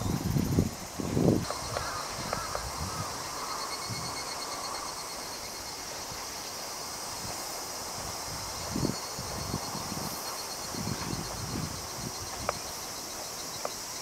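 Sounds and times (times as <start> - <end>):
insect chorus chirring: 0.0 - 14.0
short insect chirps: 0.0 - 14.0.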